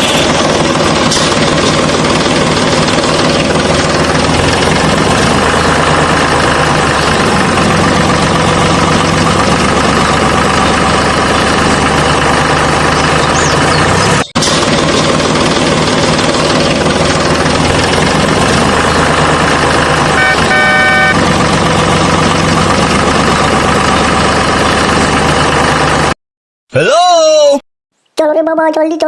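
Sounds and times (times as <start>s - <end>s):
tractor motor running: 0.0s - 26.2s.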